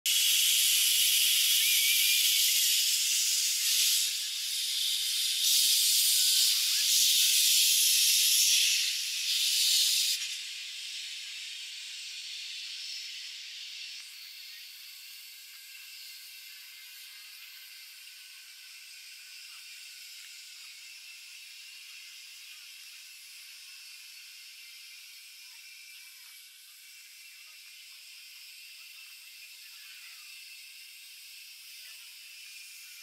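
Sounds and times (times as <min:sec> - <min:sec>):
steam locomotive venting steam: 0:00.1 - 0:33.0.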